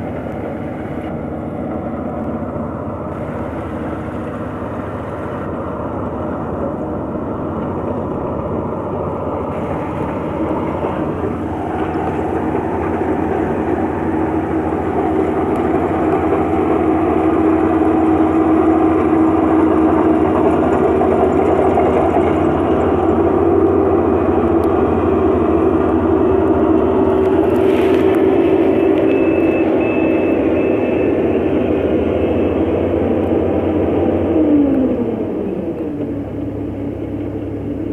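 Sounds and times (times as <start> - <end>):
combine harvester drone: 0.0 - 37.9.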